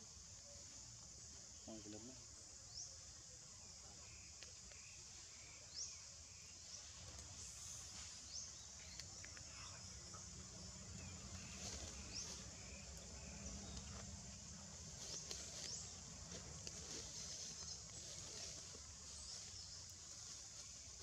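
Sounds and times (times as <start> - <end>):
insects humming: 0.0 - 21.0.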